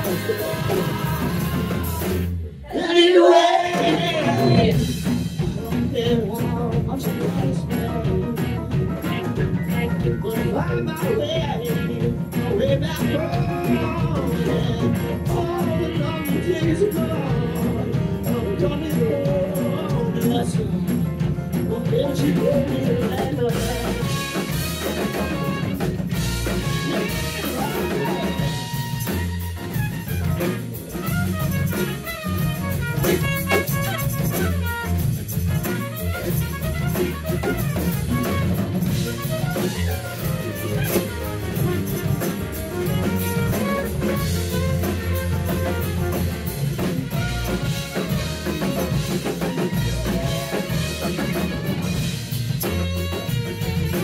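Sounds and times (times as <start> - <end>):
trumpet: 0.0 - 2.3, 3.0 - 20.4, 21.8 - 54.0
drum kit: 0.0 - 54.0
electric bass: 0.0 - 54.0
grand piano: 0.0 - 54.0.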